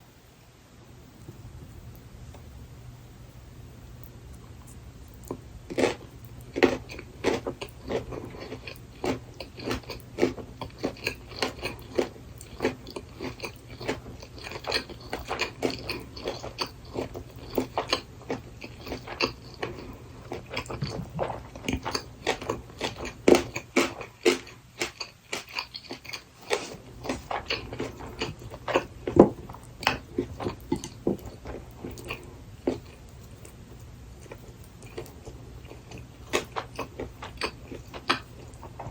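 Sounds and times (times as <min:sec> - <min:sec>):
steady low hum: 0:00.0 - 0:38.9
wet crunchy chewing: 0:04.3 - 0:38.9.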